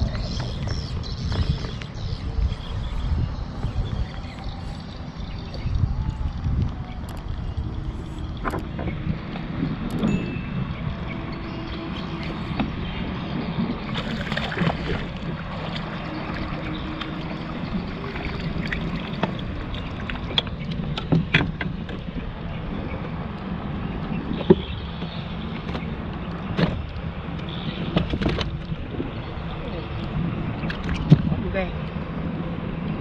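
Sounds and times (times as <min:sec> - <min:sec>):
wind and water against hull: 0:00.0 - 0:33.0.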